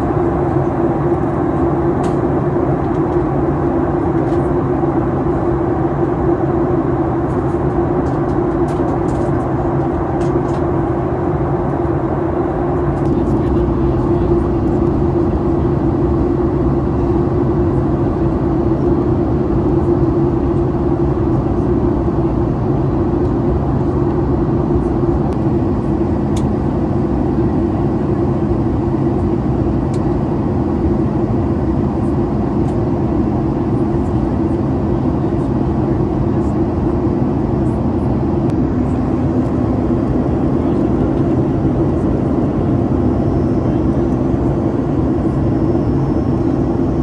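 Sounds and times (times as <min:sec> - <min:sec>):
airplane cabin engine drone: 0:00.0 - 0:47.0.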